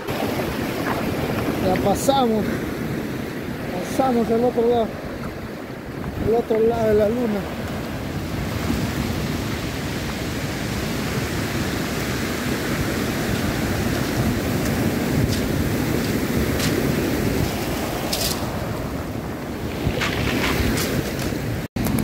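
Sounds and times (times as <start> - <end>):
surf washing over pebbles: 0.0 - 22.0
wind rumble on microphone: 0.0 - 22.0.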